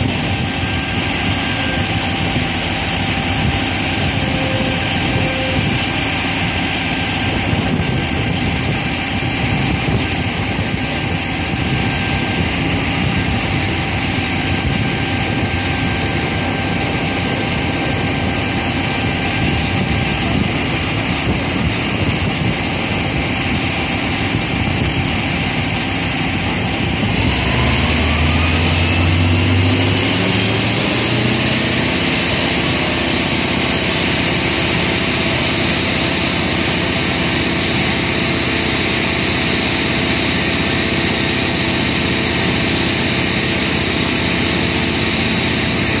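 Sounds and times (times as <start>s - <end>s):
fire pump running: 0.0s - 46.0s
truck engine revving: 0.0s - 46.0s.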